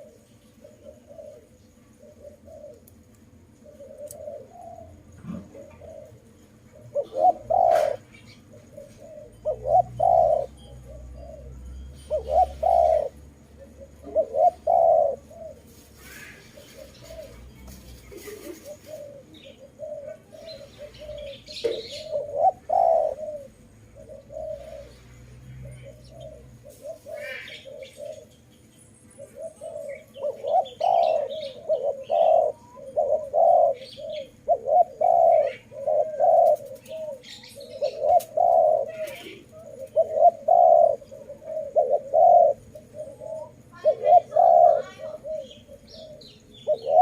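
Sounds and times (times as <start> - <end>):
dove cooing: 0.0 - 28.5, 29.1 - 47.0.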